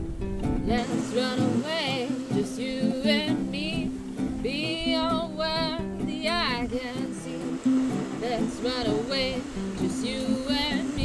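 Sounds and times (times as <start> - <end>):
strummed acoustic guitar: 0.0 - 11.0
person singing: 0.6 - 11.0.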